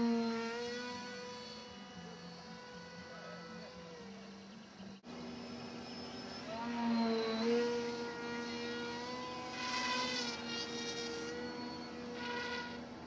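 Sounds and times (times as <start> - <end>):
electric motor and propeller whine: 0.0 - 13.0.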